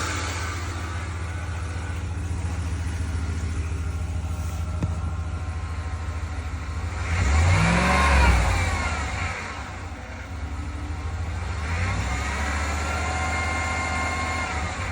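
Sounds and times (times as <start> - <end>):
engine whine: 0.0 - 14.9
truck engine idling and revving: 0.0 - 14.9.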